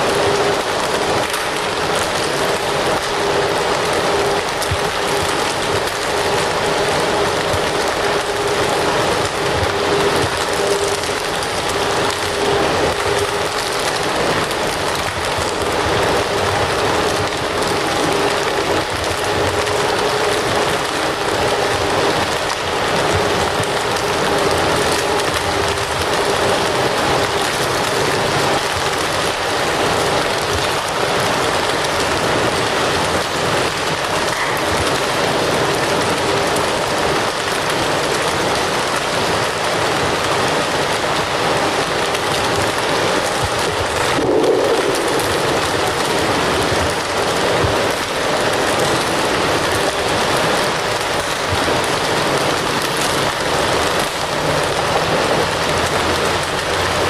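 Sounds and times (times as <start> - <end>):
fire crackling: 0.0 - 57.0.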